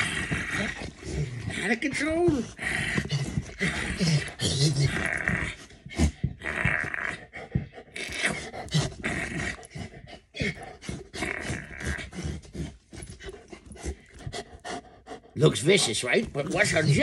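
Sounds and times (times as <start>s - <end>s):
dog play-growling and huffing: 0.0s - 17.0s.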